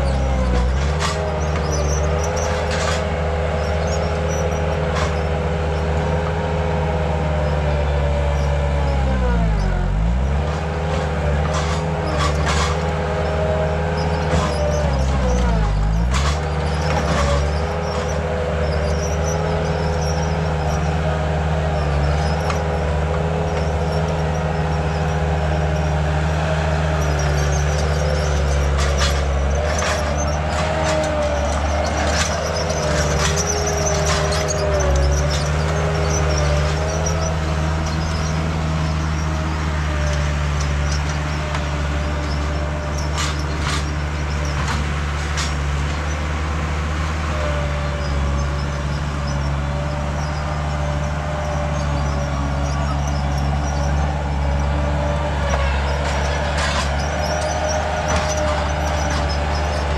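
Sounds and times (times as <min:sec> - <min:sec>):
heavy machine engine running: 0:00.0 - 0:59.9.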